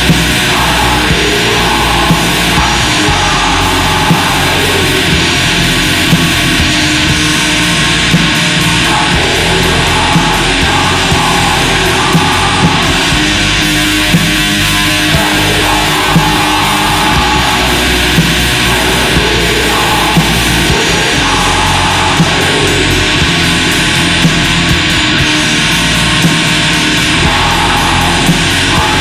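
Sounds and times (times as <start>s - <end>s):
black metal music: 0.0s - 29.0s.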